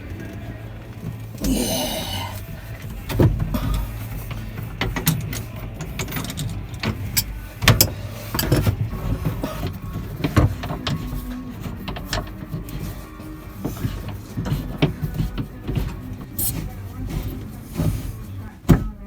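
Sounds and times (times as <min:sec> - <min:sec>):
rasping scrape: 0:00.2 - 0:18.9.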